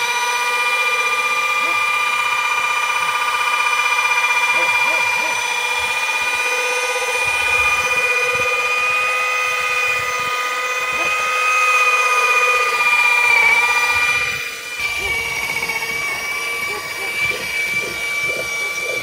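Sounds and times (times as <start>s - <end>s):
power tool motor whining: 0.0s - 19.0s.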